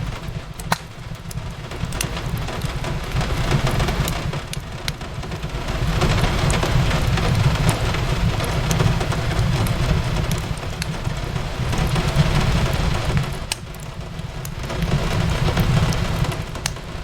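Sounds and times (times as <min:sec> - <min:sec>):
rain on a window: 0:00.0 - 0:17.0
wood fire crackling: 0:00.0 - 0:17.0.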